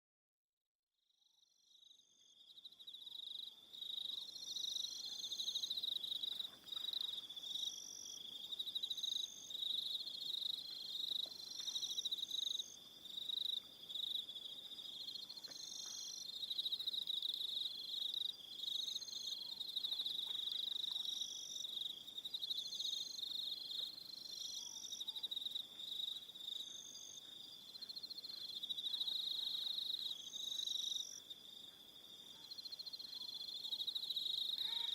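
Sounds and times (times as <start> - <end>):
crickets chirping: 1.6 - 34.9.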